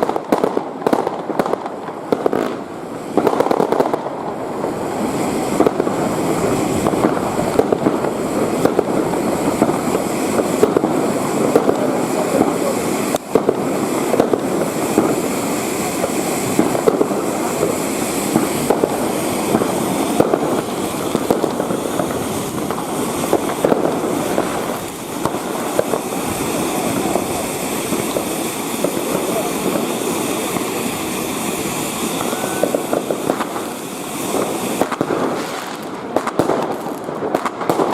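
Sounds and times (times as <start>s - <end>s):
fireworks and firecrackers crackling: 0.0s - 37.9s.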